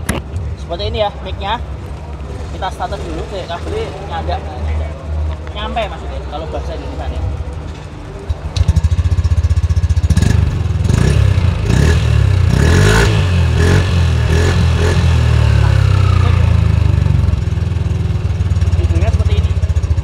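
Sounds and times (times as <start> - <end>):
scooter engine starting and revving: 1.6 - 20.0.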